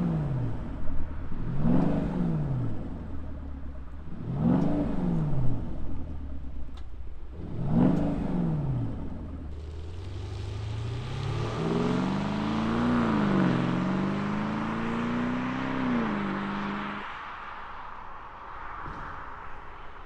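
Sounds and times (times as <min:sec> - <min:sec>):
car engine accelerating: 0:00.0 - 0:17.4.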